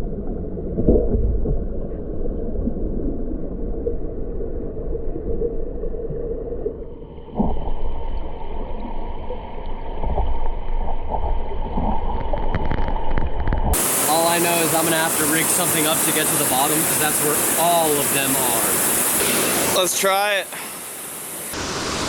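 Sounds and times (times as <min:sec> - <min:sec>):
muffled underwater river rush: 0:00.0 - 0:22.0.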